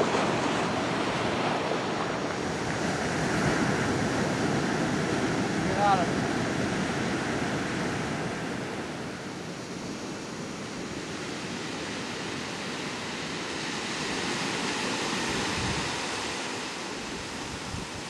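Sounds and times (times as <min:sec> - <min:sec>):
ocean surf rushing: 0:00.0 - 0:18.0
wind on microphone: 0:00.0 - 0:18.0.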